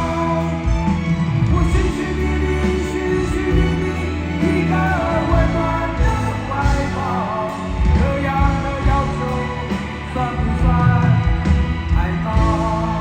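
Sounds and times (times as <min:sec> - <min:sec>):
live rock band: 0:00.0 - 0:13.0.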